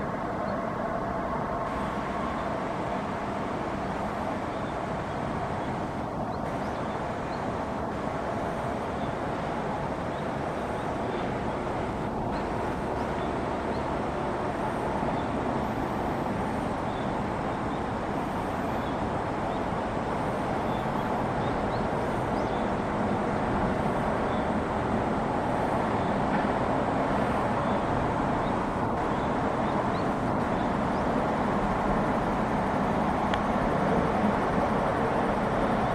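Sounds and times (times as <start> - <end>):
river rushing: 0.0 - 35.9.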